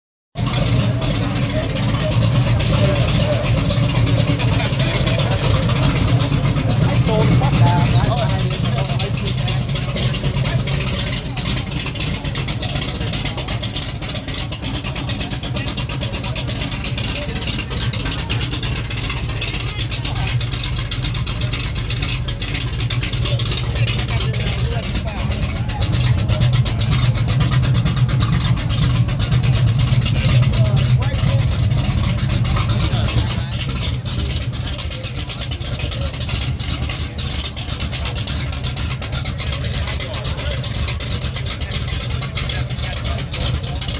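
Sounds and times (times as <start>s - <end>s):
vee eight engine idling roughly: 0.3s - 43.9s.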